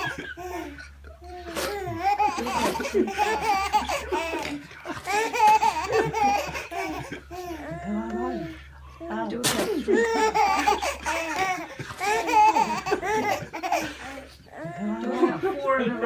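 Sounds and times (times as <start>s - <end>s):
baby giggling: 0.0s - 7.8s, 9.7s - 15.4s.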